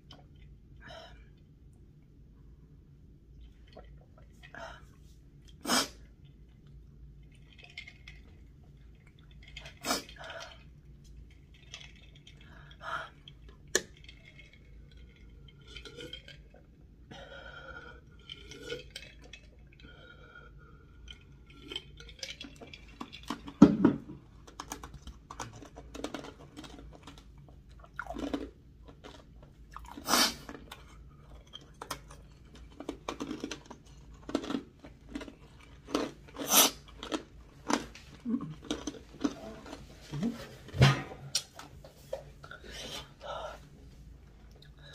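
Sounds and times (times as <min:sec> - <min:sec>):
person sipping and gulping: 0:03.3 - 0:40.6.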